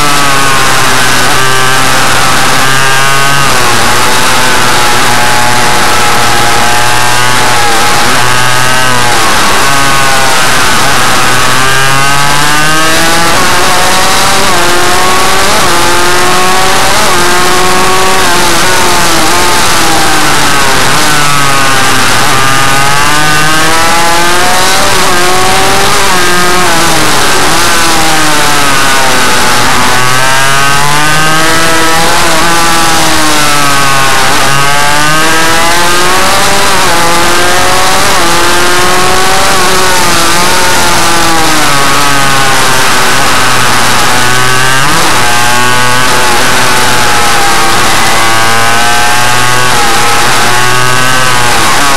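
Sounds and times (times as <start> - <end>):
small motorcycle engine revving: 0.0 - 51.9.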